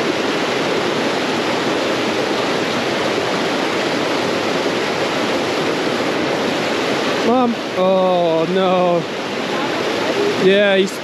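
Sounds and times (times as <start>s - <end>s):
creek water flowing over rocks: 0.0s - 11.0s.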